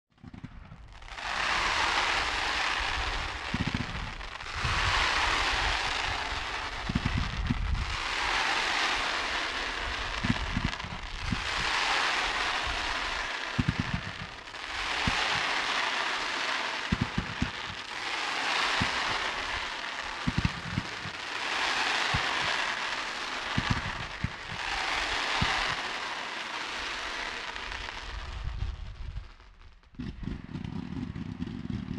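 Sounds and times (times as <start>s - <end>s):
fireworks rockets hissing: 0.8s - 31.4s.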